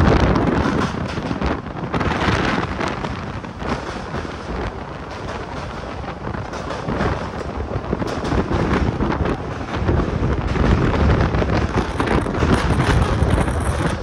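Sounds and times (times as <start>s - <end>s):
moving train running noise: 0.0s - 14.0s
rattling and clatter: 0.0s - 14.0s
wind buffeting microphone: 0.0s - 14.0s.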